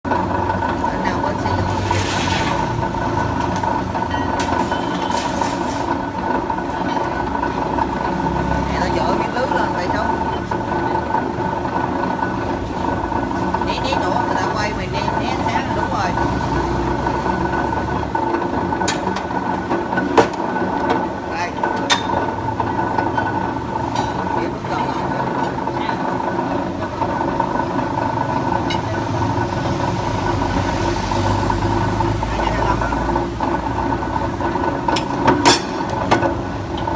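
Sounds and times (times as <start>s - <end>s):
rebar cutting machine humming: 0.1s - 36.9s.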